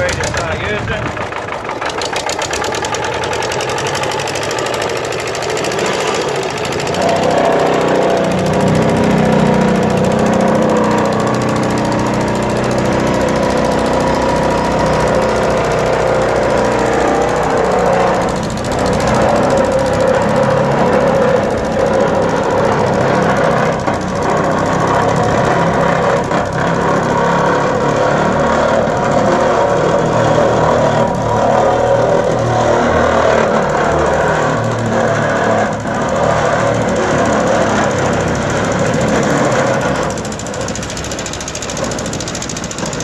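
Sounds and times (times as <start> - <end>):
diesel engine knocking: 0.0 - 43.0.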